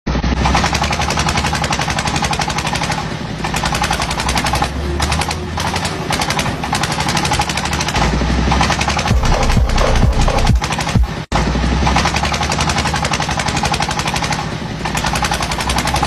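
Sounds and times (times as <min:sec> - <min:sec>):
machine engine clattering: 0:00.1 - 0:16.0.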